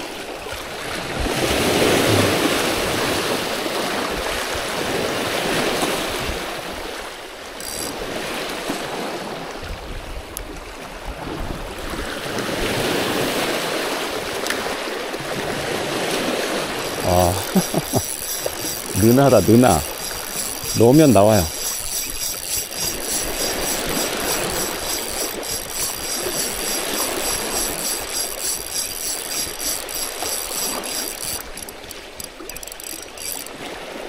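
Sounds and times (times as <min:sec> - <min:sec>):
waves splashing against rocks: 0:00.0 - 0:34.0.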